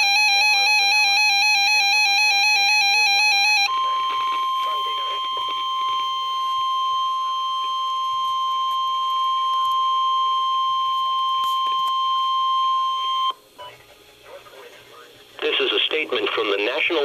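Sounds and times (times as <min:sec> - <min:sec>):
loud steady alarm beep: 0:00.0 - 0:13.8.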